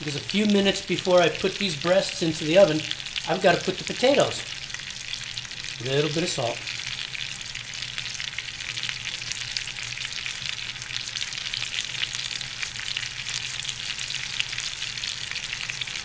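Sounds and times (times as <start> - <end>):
chicken sizzling in a skillet: 0.0 - 16.0.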